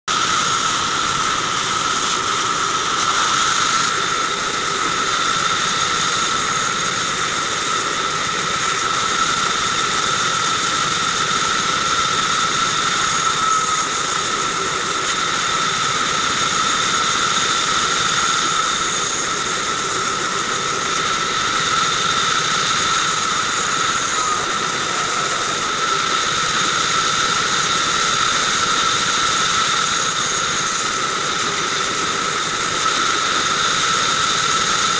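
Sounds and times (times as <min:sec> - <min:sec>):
band saw whining: 0:00.1 - 0:34.9
saw cutting wood: 0:00.1 - 0:34.9.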